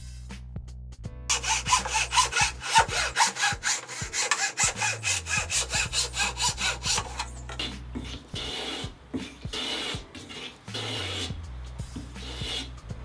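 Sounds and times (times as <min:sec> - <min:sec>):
hand saw cutting wood: 0:01.3 - 0:11.4, 0:12.0 - 0:12.8.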